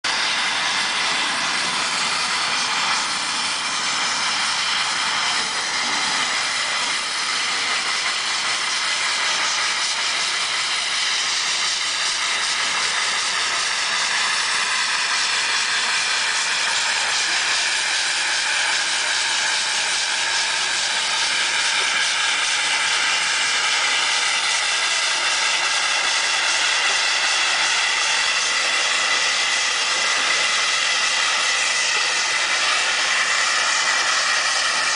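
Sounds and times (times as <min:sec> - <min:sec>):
steam locomotive hissing steam: 0:00.1 - 0:34.9.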